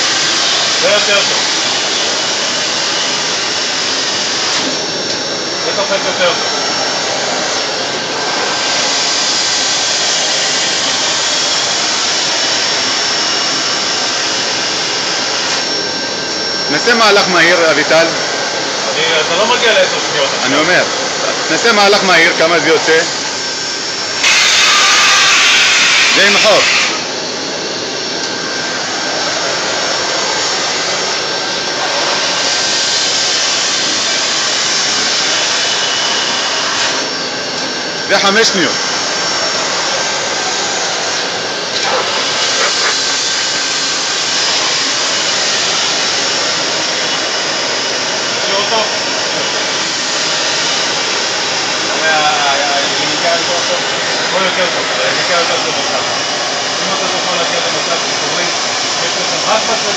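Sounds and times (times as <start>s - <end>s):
blower rushing air with whine: 0.0s - 59.9s.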